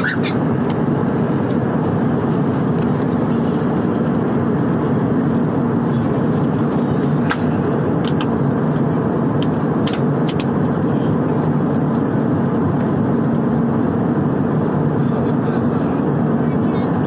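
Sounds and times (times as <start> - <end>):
aeroplane engines droning: 0.0 - 17.0
air rushing in cabin: 0.0 - 17.0.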